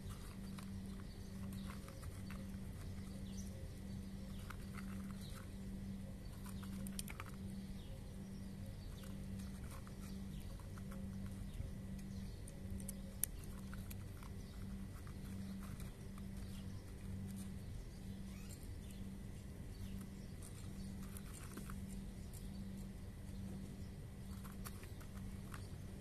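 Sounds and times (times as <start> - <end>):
low pulsing hum: 0.0 - 26.0.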